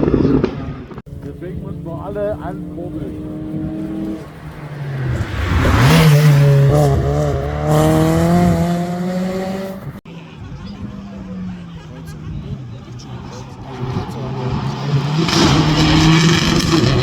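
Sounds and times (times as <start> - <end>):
rally car passing at speed: 1.1 - 10.0, 11.0 - 17.0.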